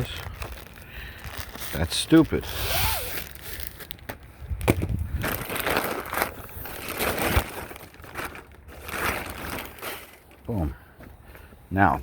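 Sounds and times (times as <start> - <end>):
packaging crinkling and crunching: 0.0 - 10.6.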